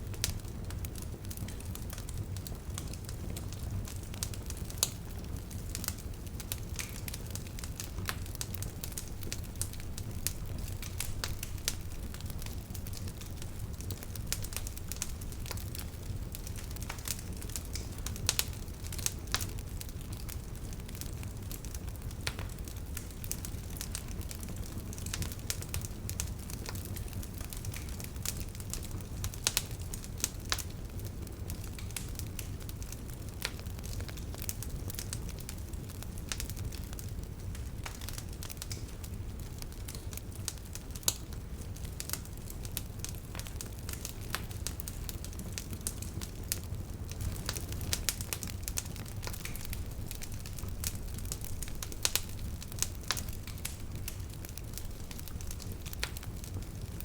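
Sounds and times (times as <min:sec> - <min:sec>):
bonfire crackling: 0:00.0 - 0:57.0
fire snaps and pops: 0:00.0 - 0:57.0
low fire rumble: 0:00.0 - 0:57.0.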